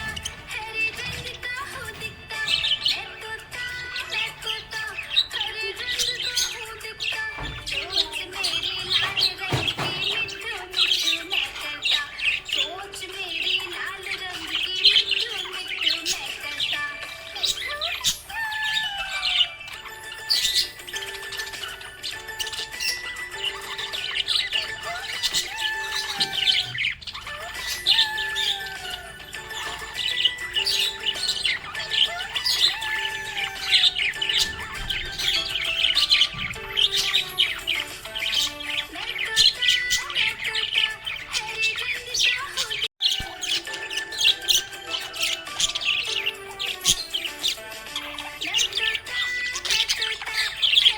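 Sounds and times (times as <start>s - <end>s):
background music of held notes: 0.0s - 50.9s
budgerigars chirping and warbling: 0.0s - 50.9s.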